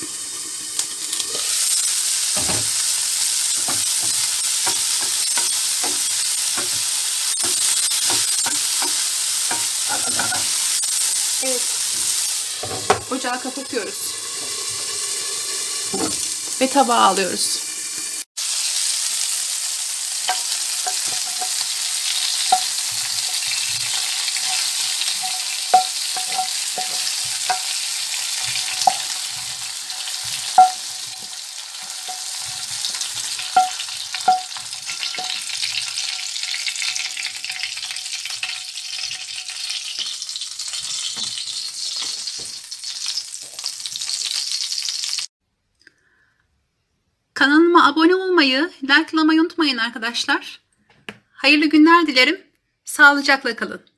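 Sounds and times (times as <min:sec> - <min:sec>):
oil sizzling in a frying pan: 0:00.0 - 0:45.3.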